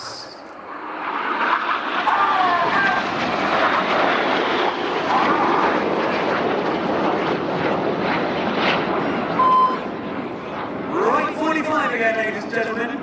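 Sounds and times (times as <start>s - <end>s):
jets flying low roaring: 0.0s - 13.0s.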